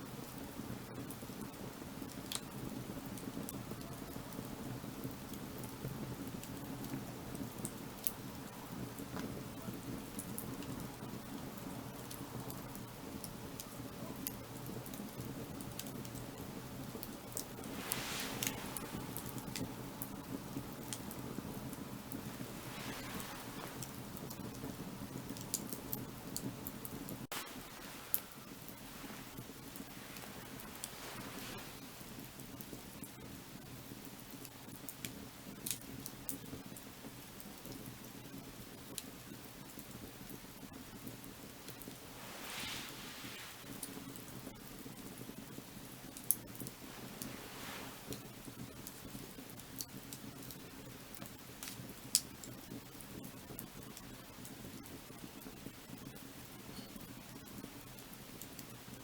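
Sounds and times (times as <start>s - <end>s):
wood fire rushing: 0.0s - 58.9s
fire crackling and popping: 0.0s - 59.0s.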